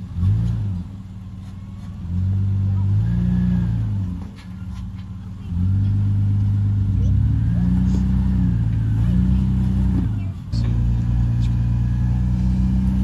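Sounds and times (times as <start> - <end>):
suv engine pulling under load: 0.0 - 13.0.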